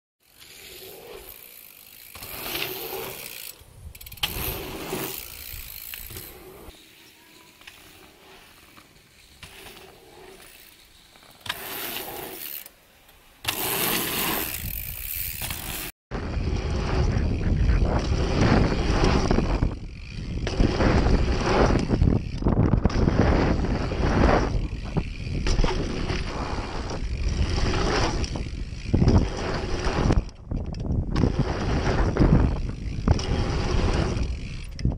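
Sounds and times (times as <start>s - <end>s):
bicycle freehub ticking: 0.2s - 12.7s, 14.4s - 34.9s
tyres rolling over dirt: 0.3s - 34.9s.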